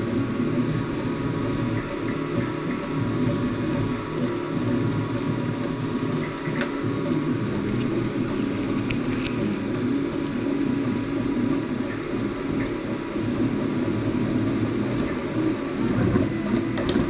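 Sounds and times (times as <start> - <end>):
printer motors whirring: 0.0 - 17.0
steady hum: 0.0 - 17.0.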